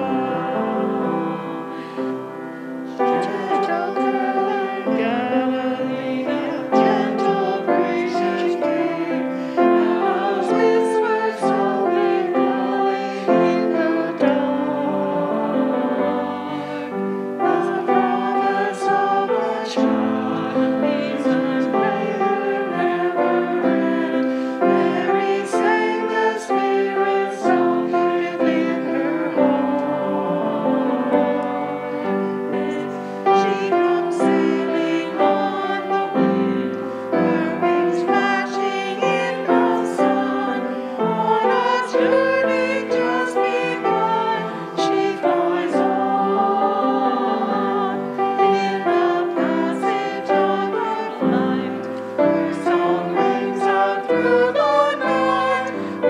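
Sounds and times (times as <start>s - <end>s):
hymn singing: 0.0s - 56.0s
piano accompaniment: 0.0s - 56.0s.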